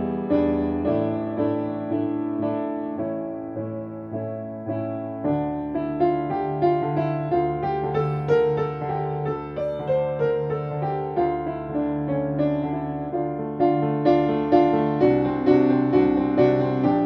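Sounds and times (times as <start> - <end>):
grand piano melody: 0.0 - 17.0.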